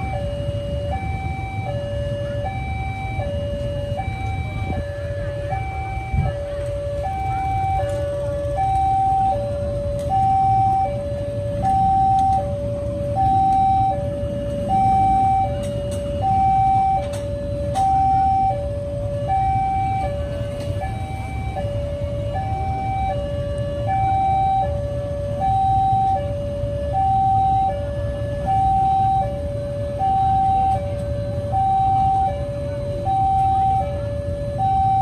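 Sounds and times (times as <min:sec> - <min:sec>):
level crossing two-tone alarm: 0:00.0 - 0:35.0.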